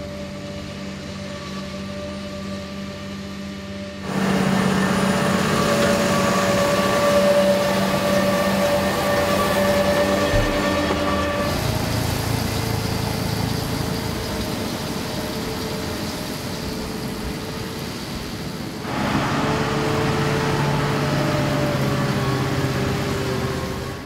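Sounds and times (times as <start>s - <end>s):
tractor and baler droning: 0.0s - 24.0s.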